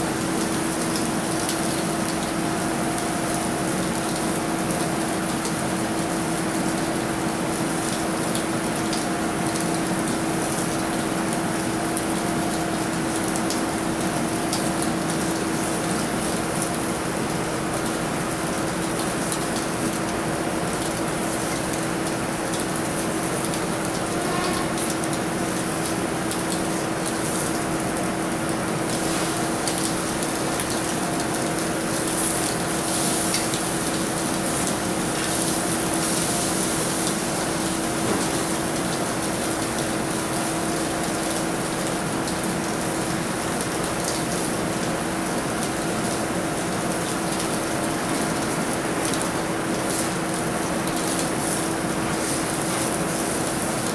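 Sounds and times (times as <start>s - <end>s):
food sizzling on a grill: 0.0s - 53.9s.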